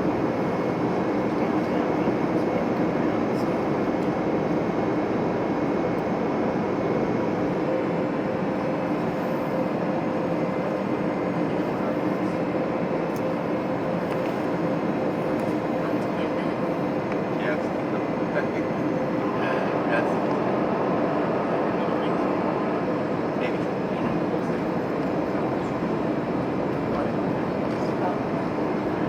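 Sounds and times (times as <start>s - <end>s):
airflow rushing in cabin: 0.0s - 29.0s
jet engines droning: 0.0s - 29.0s.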